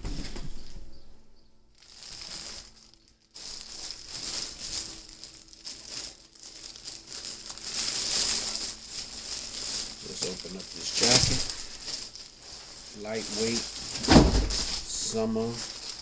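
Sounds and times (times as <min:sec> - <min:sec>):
packaging crinkling and rustling: 0:01.8 - 0:16.0.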